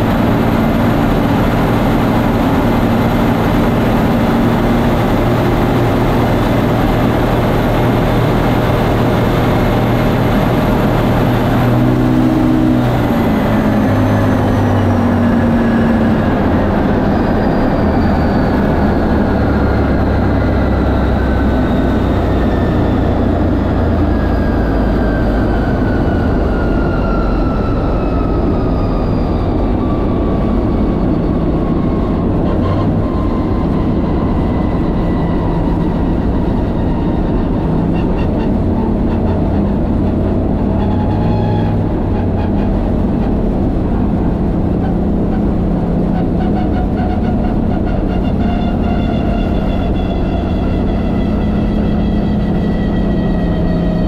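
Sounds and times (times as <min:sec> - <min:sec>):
truck engine under full load: 0:00.0 - 0:54.0
wind rush: 0:00.0 - 0:54.0.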